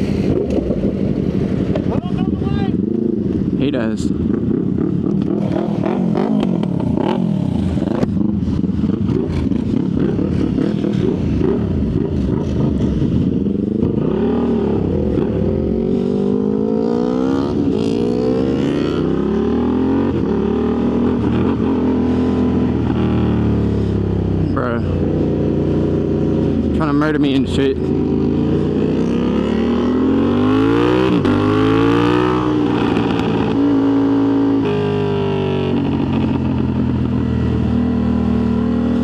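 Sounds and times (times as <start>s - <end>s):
motorcycle engines revving: 0.0s - 39.0s
wind and road noise: 0.0s - 39.0s.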